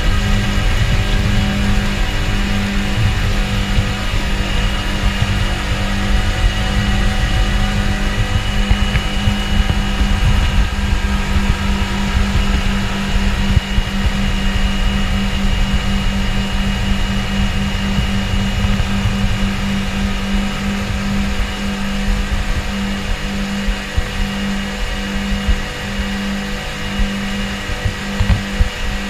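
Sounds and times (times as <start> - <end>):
low rushing noise: 0.0 - 29.0
outboard motors running at high speed: 0.0 - 29.0.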